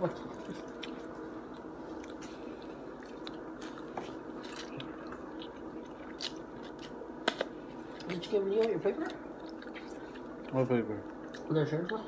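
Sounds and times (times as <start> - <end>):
steady background hum: 0.0 - 12.0
person chewing noodles: 0.1 - 12.0.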